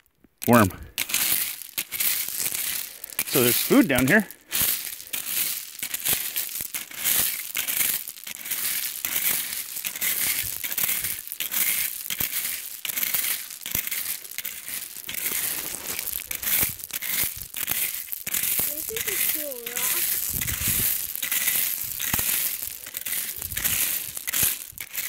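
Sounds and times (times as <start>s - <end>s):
rake scraping stones: 0.5s - 25.0s.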